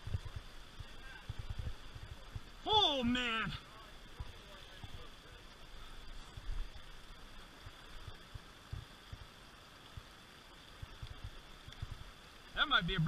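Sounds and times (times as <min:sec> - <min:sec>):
creek running over stones: 0:00.0 - 0:13.0.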